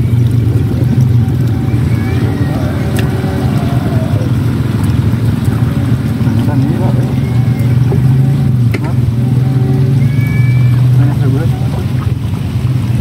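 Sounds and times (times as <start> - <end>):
low motor drone: 0.0 - 13.0.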